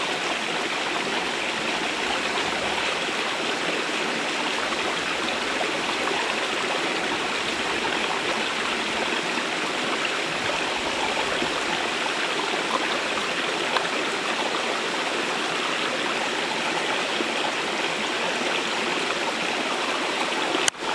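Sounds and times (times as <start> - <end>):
stream flowing over stones: 0.0 - 20.9.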